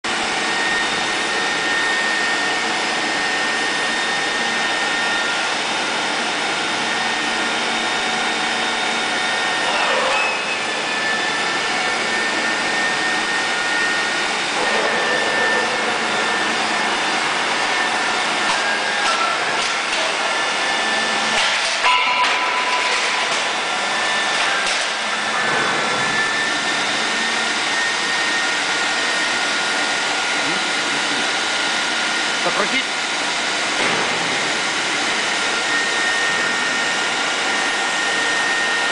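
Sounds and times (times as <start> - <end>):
machinery whine and hiss: 0.1 - 38.9.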